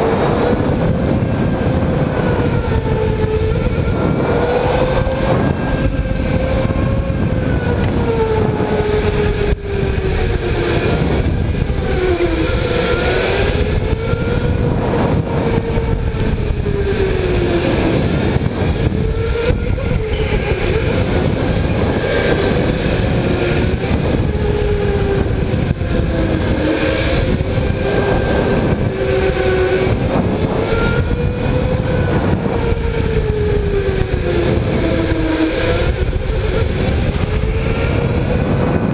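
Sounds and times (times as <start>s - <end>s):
electric motor whine: 0.0s - 38.9s
heavy kart rumble: 0.0s - 38.9s.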